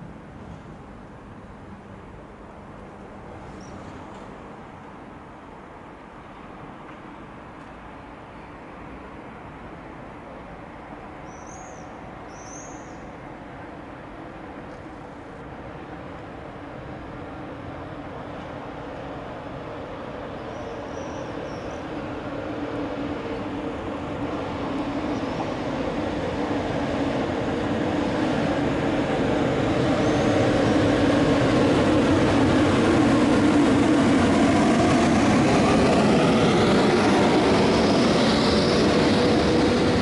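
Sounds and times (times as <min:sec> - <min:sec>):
high hiss of passing cars: 0:00.0 - 0:40.0
train passing rumble: 0:00.0 - 0:40.0.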